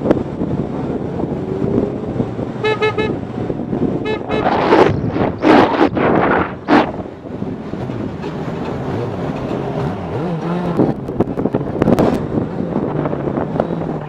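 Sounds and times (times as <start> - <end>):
motorcycle engine revving: 0.0 - 14.0
wind noise on microphone: 0.0 - 14.0.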